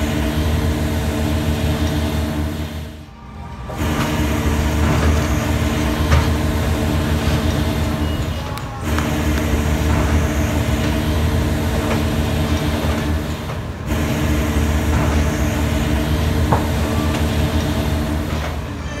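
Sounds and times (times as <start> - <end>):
diesel engine rumbling: 0.0 - 18.8.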